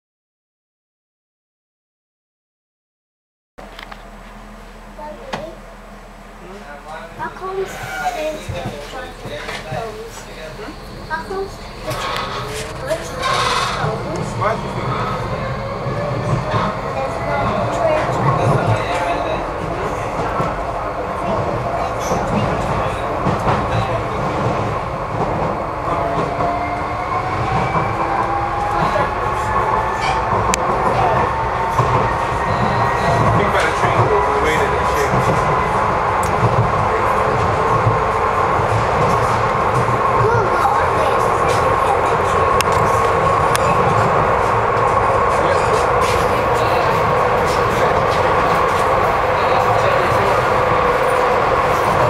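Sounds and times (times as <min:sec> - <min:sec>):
train wheels rumbling on track: 0:03.6 - 0:52.0.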